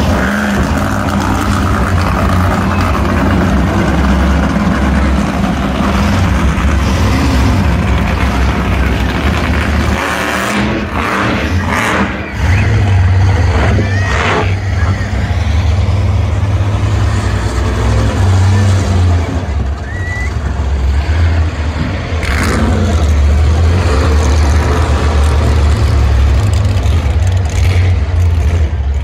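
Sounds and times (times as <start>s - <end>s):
monster truck engine running: 0.0s - 29.0s.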